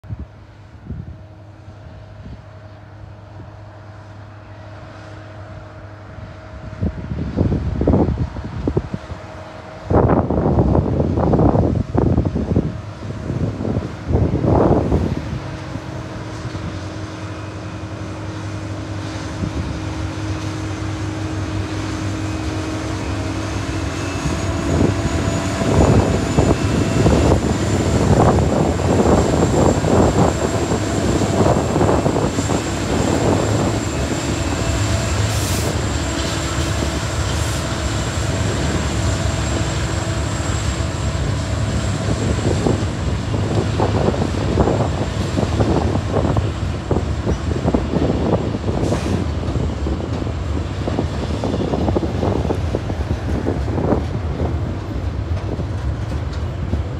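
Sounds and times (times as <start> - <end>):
diesel locomotive engines: 0.0 - 56.9.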